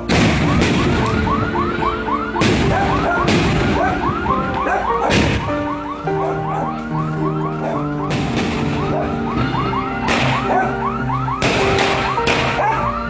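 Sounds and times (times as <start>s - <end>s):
fireworks bangs: 0.0s - 5.8s, 7.8s - 13.0s
car alarm whooping: 0.0s - 13.0s.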